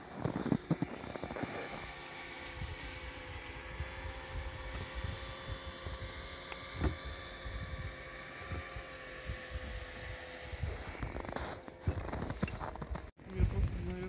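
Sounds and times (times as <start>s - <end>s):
engine running: 0.0s - 13.1s.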